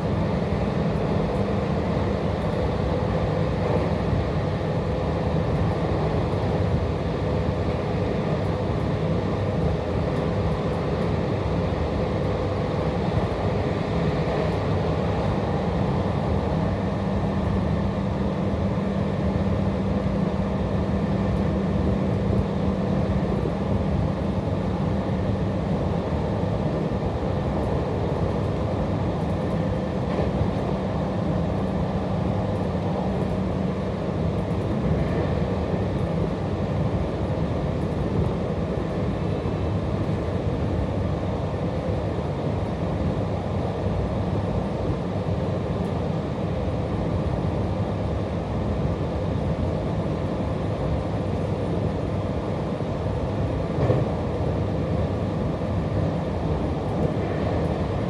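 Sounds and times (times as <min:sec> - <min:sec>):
steady low hum: 0:00.0 - 0:58.0
train wheels rumbling on rail: 0:00.0 - 0:58.0.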